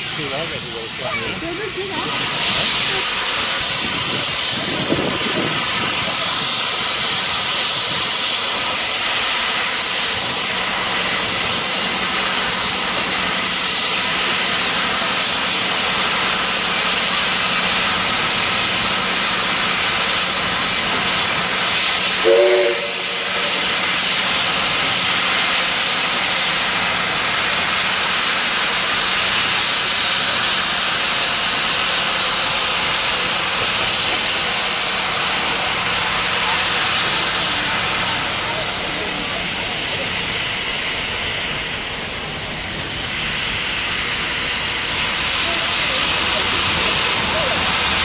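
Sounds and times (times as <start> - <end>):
locomotive venting steam: 0.0 - 48.0.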